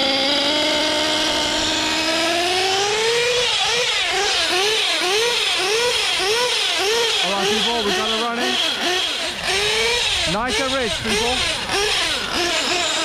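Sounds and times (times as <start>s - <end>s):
nitro engine revving: 0.0s - 13.0s.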